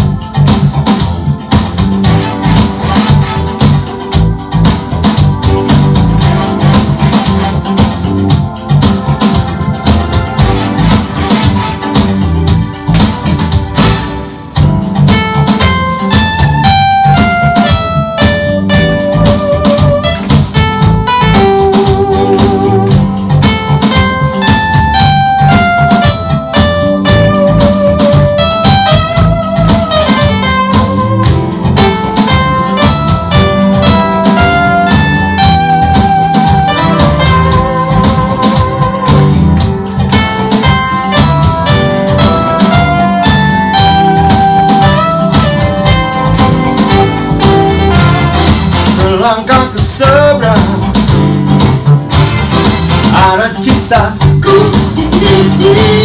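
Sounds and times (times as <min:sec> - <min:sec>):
backing track with drums and bass: 0:00.0 - 0:56.0
keytar lead melody: 0:00.0 - 0:56.0.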